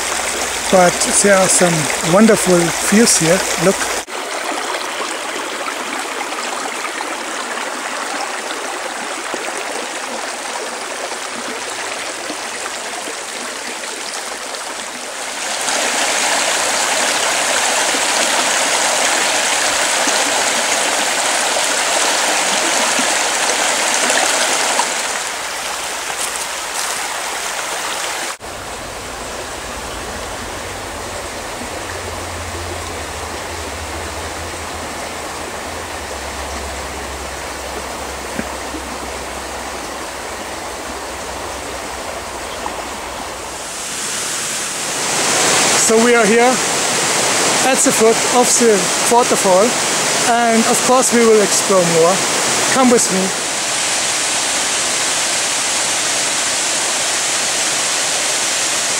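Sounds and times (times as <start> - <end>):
mountain creek rushing: 0.0 - 58.9.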